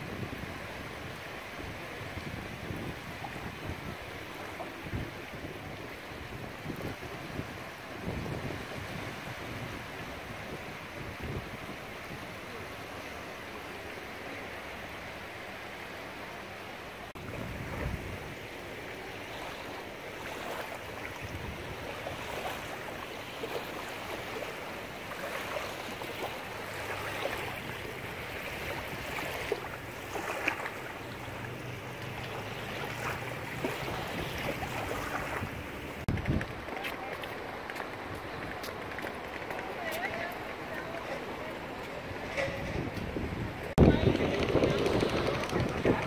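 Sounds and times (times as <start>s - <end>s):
small waves lapping on shore: 0.0s - 46.0s.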